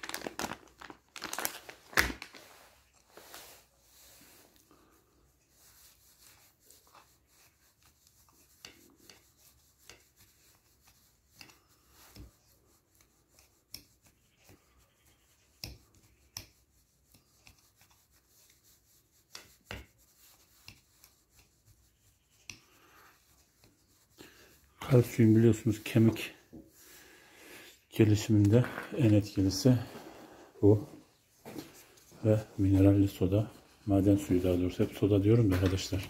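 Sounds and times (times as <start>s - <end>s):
soft rubbing: 2.3s - 36.0s.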